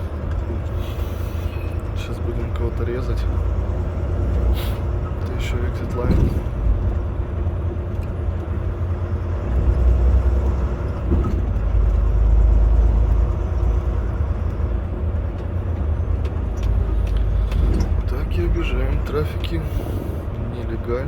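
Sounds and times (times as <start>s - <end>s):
road rumble: 0.0s - 21.0s
truck diesel engine drone: 0.0s - 21.0s.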